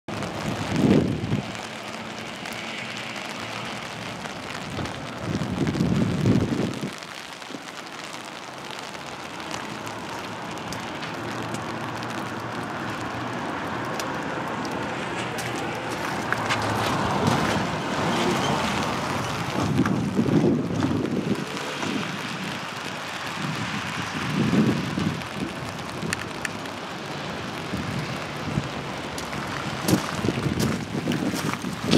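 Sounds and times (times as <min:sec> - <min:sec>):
wind buffeting microphone: 0:00.1 - 0:07.7, 0:08.4 - 0:31.9
rain on an umbrella: 0:00.1 - 0:31.9.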